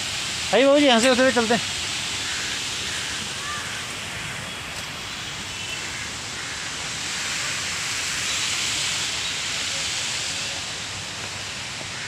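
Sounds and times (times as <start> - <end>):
fountain water rushing: 0.0 - 12.0.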